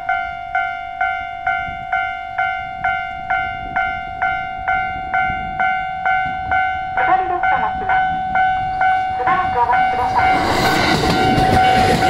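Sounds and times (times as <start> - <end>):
level crossing alarm dinging: 0.0 - 12.0.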